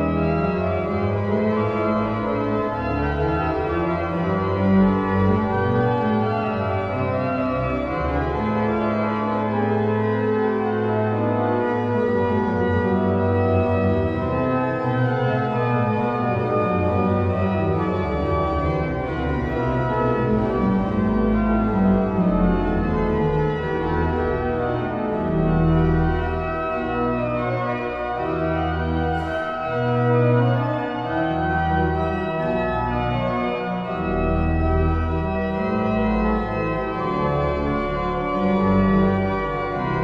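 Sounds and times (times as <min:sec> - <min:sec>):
organ chords: 0:00.0 - 0:40.0.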